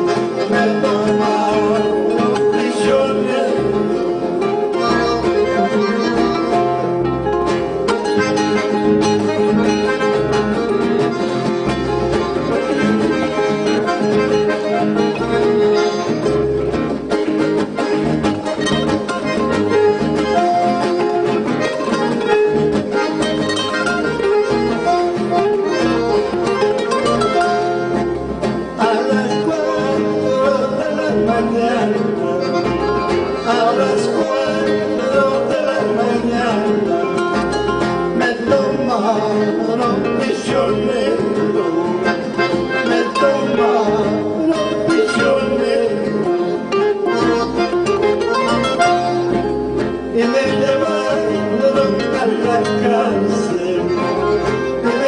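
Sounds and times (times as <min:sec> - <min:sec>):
acoustic guitar: 0:00.0 - 0:55.0
piano accordion: 0:00.0 - 0:55.0.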